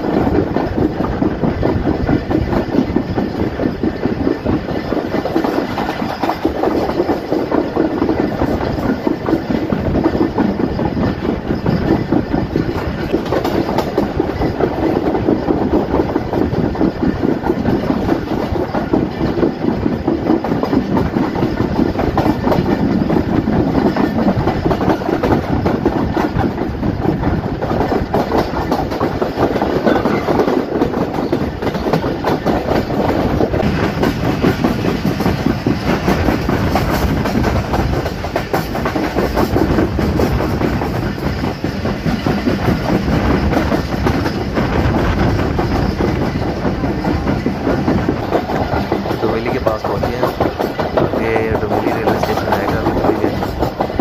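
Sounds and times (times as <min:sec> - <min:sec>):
clickety-clack over rail joints: 0:00.0 - 0:54.0
train wheels rumbling on track: 0:00.0 - 0:54.0.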